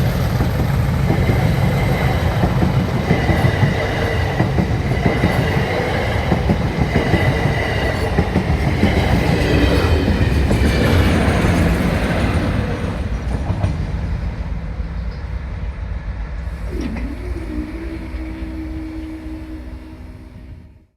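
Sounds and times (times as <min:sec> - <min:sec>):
diesel train passing: 0:00.0 - 0:20.9.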